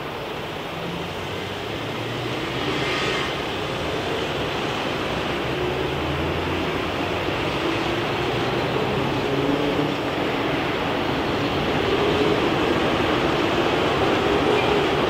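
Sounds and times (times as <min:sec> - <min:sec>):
jet airliner engine rushing: 0:00.0 - 0:15.0.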